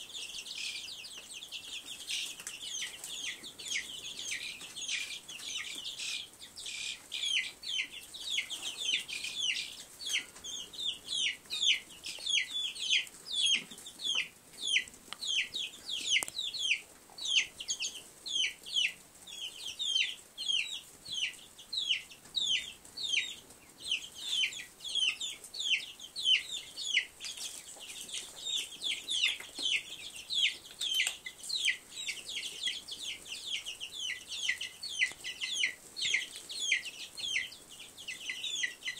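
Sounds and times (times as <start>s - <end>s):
chicks and ducklings peeping: 0.0s - 38.9s.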